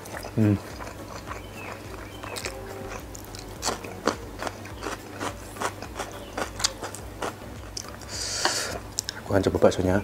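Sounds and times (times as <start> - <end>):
wet chewing of noodles: 0.0 - 9.2.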